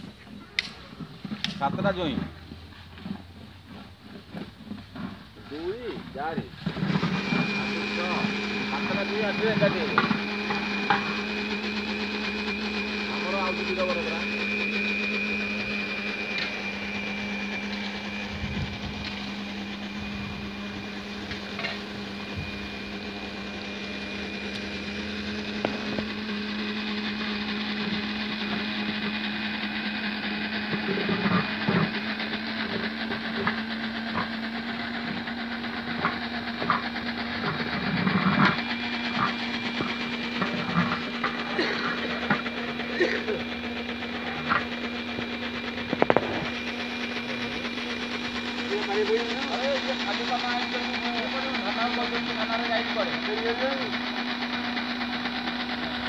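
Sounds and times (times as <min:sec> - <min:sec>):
steady machine hum: 0:00.0 - 0:56.0.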